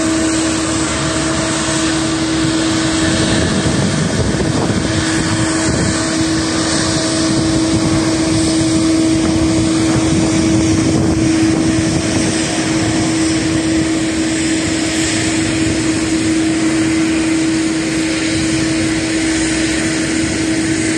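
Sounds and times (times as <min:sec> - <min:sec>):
jet engine roar at takeoff: 0:00.0 - 0:20.9
low engine hum: 0:00.0 - 0:20.9.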